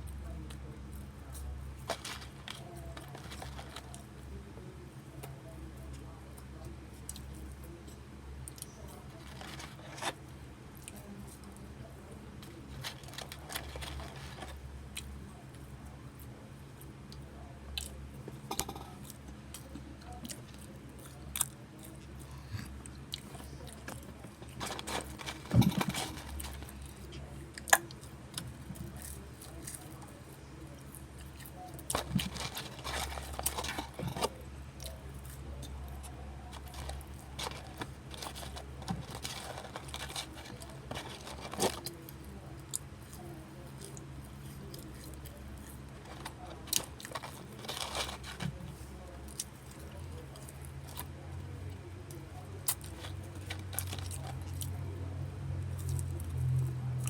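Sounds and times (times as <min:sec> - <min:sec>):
child eating french fries: 0:00.0 - 0:57.0
low steady hum: 0:00.0 - 0:57.0.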